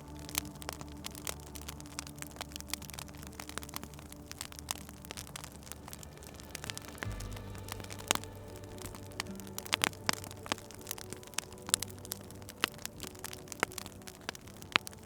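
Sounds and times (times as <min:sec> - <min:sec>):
steady low drone: 0:00.0 - 0:15.0
wood fire crackling: 0:00.0 - 0:15.0.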